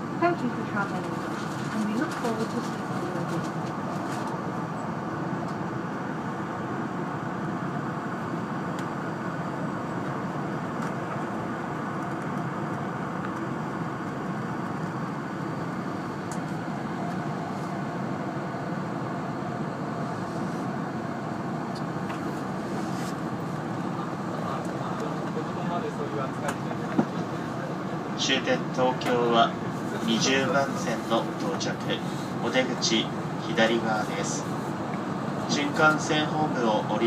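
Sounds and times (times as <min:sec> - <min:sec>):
train cabin running noise: 0:00.0 - 0:37.0.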